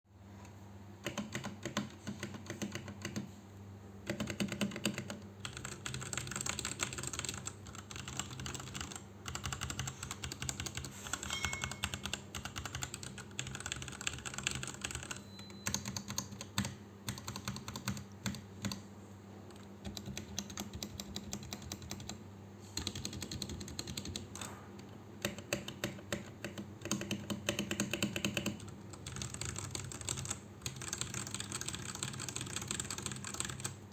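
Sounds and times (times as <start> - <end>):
mechanical keyboard typing: 1.0 - 3.3, 4.0 - 18.8, 19.5 - 22.2, 22.8 - 33.9.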